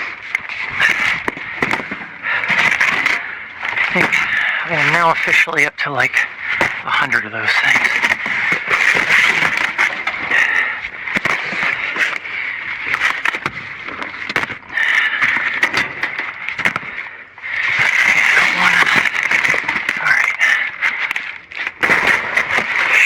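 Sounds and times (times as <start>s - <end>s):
debris rustling and scraping: 0.0s - 5.6s, 6.4s - 23.0s.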